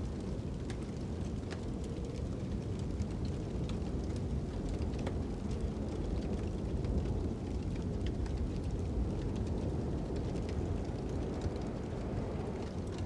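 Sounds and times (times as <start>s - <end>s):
low rumble of wind: 0.0s - 13.0s
wood fire crackling and popping: 0.2s - 13.0s.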